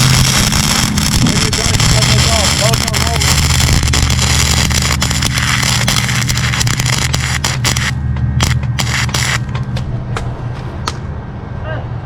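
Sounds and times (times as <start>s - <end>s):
welding arc crackling and hissing: 0.0s - 9.7s
steady low hum: 0.0s - 12.0s.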